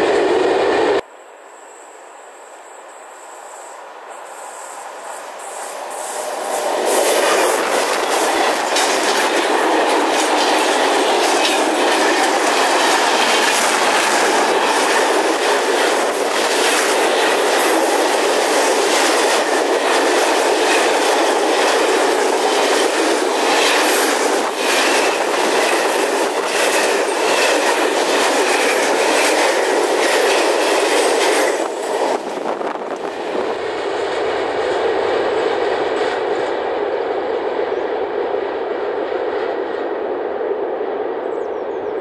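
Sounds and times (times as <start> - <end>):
freight train wheels rumbling: 0.0 - 1.1, 3.8 - 42.0.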